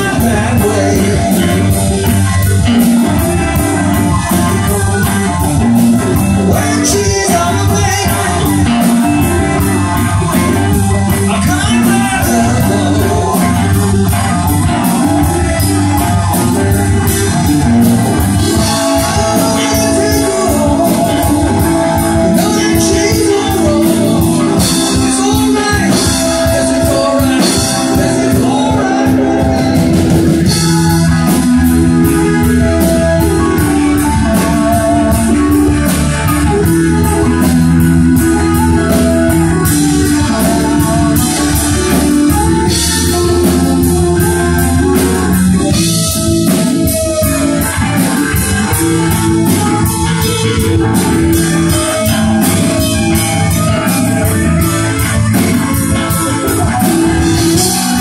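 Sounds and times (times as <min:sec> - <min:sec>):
electric bass guitar: 0:00.0 - 0:58.0
electric guitar: 0:00.0 - 0:58.0
steady drum beat: 0:00.0 - 0:58.0.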